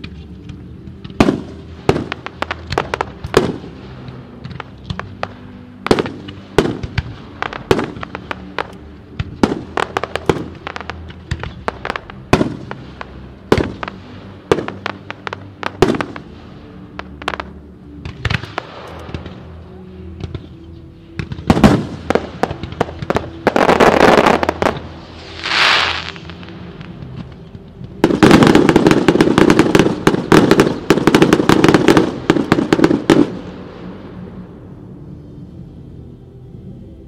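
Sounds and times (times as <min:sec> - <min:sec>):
fireworks banging and crackling: 0:00.0 - 0:34.0
music playing: 0:00.0 - 0:37.0.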